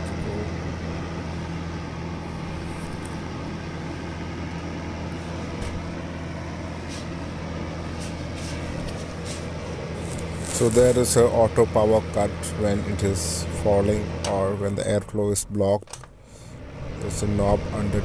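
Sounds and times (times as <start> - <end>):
electric fan heater running: 0.0 - 18.0.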